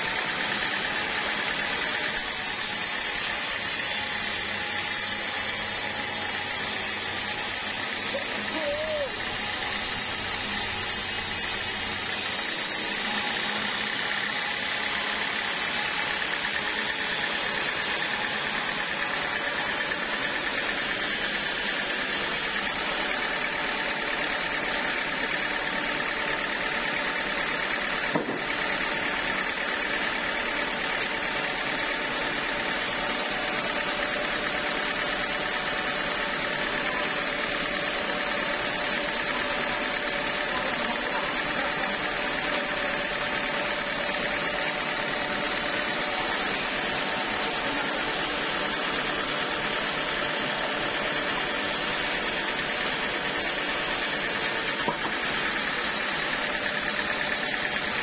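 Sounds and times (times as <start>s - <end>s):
band saw machine hum and whine: 0.0s - 58.0s.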